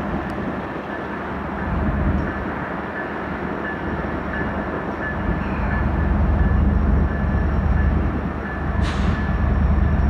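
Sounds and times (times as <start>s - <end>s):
diesel locomotive engine rumble: 0.0s - 10.0s.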